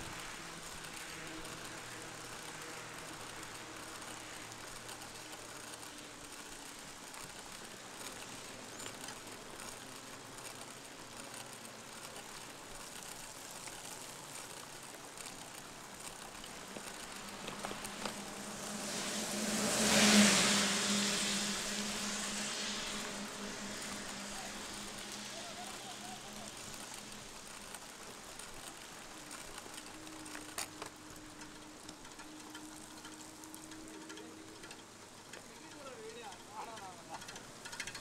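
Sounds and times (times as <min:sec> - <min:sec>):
bicycle tyres hissing on wet road: 0:00.0 - 0:38.0
rain: 0:00.0 - 0:38.0
vehicle passing on wet road: 0:00.0 - 0:38.0.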